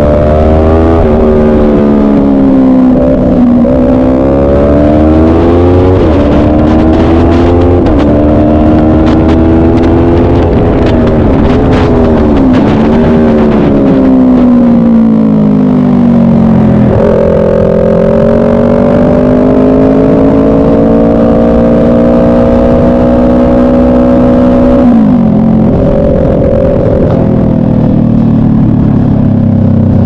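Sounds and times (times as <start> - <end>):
motorcycle engine revving: 0.0 - 30.0
wind noise: 0.0 - 30.0.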